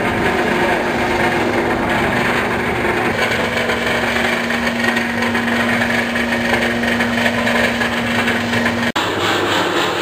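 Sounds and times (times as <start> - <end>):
grain dryer humming: 0.0 - 10.0.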